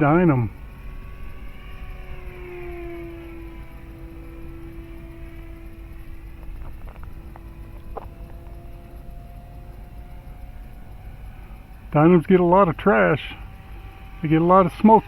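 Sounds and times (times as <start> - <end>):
wind rumbling on microphone: 0.0 - 12.1
model airplane motor whine: 0.0 - 15.0.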